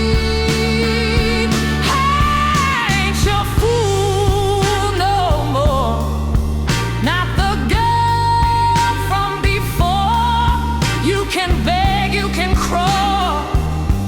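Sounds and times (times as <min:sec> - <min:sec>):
bass line: 0:00.0 - 0:14.0
blues lead melody: 0:00.0 - 0:14.0
drum beats: 0:00.0 - 0:14.0.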